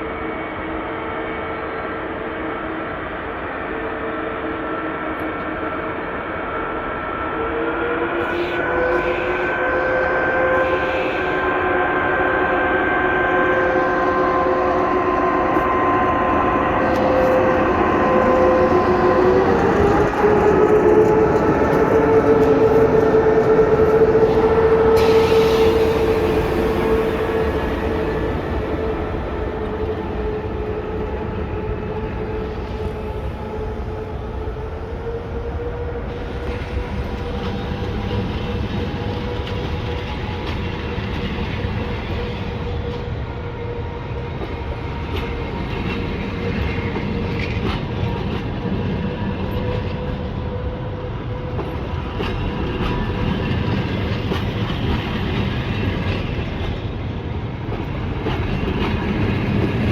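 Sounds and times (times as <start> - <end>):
locomotive whine: 0.0 - 59.9
train coaches rumbling: 0.0 - 59.9.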